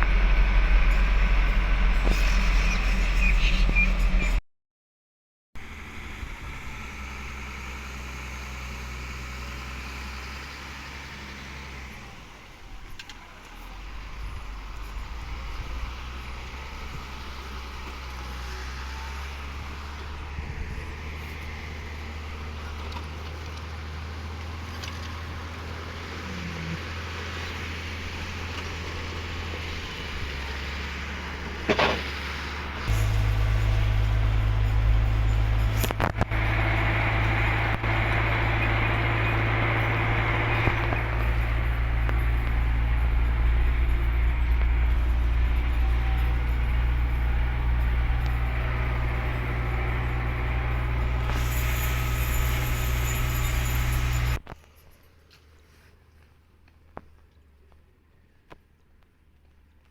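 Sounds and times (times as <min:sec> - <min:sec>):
truck engine running: 0:00.0 - 0:04.4, 0:05.6 - 0:54.5.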